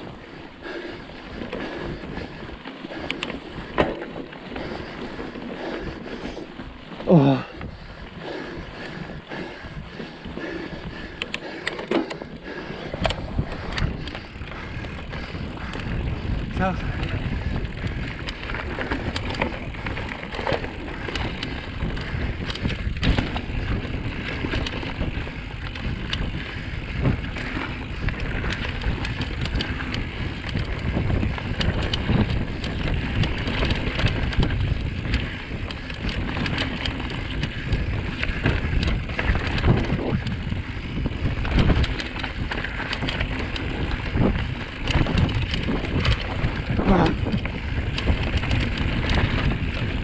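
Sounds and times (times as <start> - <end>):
bike knocking and rattling: 0.0 - 50.0
bike tyres rumbling on dirt: 0.0 - 50.0.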